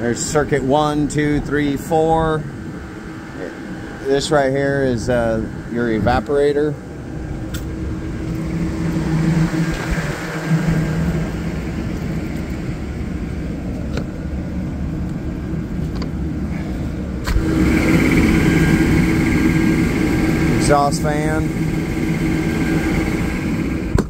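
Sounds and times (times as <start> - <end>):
air unit mechanical hum: 0.0 - 24.0
belt-driven exhaust fan running: 0.0 - 24.0.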